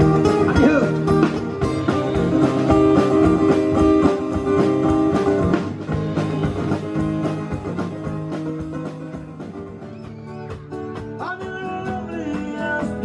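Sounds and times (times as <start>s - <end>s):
acoustic guitar strumming: 0.0s - 13.0s
drum kit beat: 0.0s - 13.0s.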